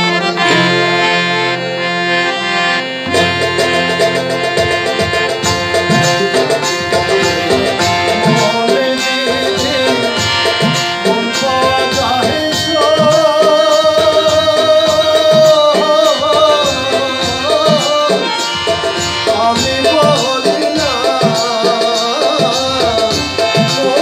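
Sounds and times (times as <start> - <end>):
harmonium: 0.0 - 24.0
tabla rhythm: 0.0 - 24.0
man singing: 0.4 - 1.6, 3.1 - 24.0.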